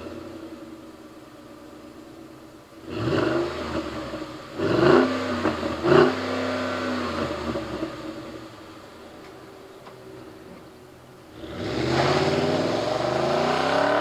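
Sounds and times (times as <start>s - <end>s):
truck engine idling and revving: 0.0s - 14.0s.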